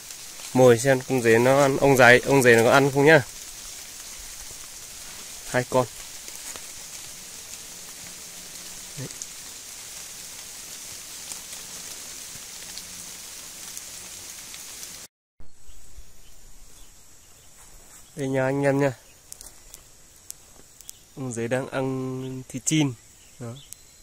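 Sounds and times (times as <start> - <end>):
rain falling on leaves: 0.0 - 15.1, 16.6 - 24.0.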